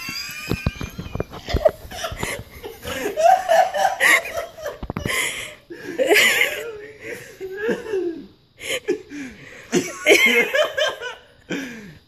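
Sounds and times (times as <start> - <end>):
human laughter: 0.0 - 11.7.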